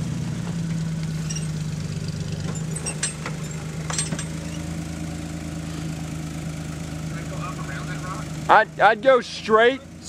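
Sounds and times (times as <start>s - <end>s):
engine running at low speed: 0.0s - 10.0s.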